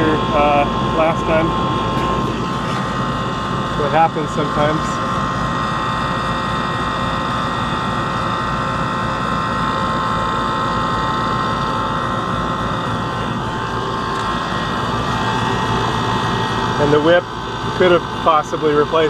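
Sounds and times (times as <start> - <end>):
condenser fan rushing: 0.0 - 19.0
constant whine: 0.0 - 19.0.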